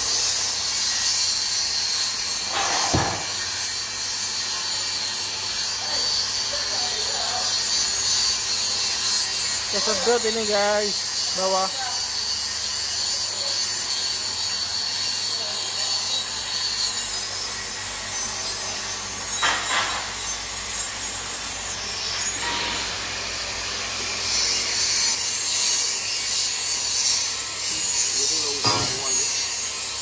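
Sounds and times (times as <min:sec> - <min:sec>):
scratchy welding hiss: 0:00.0 - 0:30.0.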